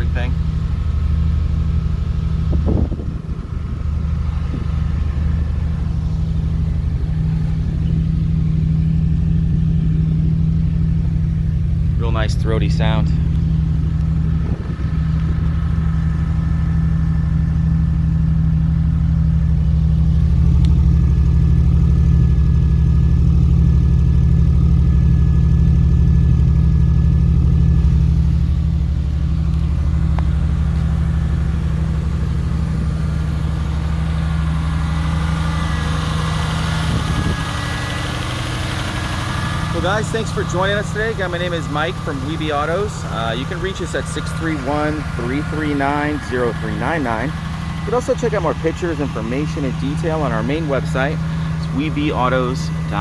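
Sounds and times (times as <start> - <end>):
vee-eight engine idling: 0.0 - 53.0.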